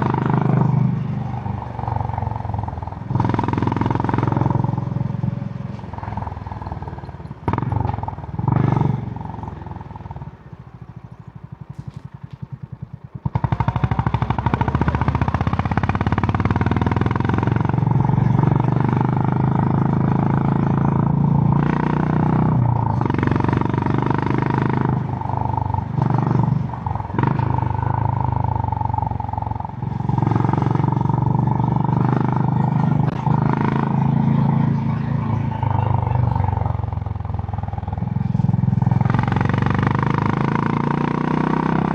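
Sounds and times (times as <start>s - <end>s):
single-cylinder motorcycle engine: 0.0s - 41.9s.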